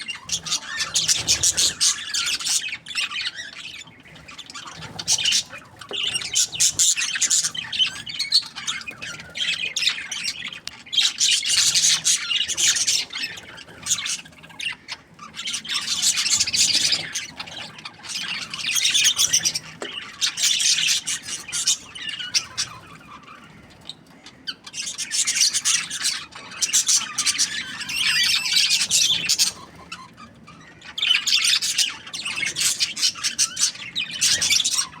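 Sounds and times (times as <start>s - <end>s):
budgerigars chirping: 0.0s - 35.0s.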